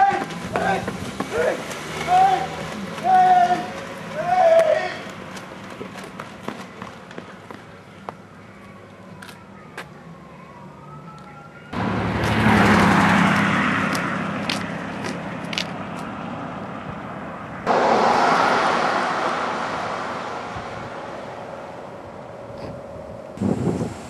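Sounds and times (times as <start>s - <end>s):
street car traffic: 0.0s - 24.0s.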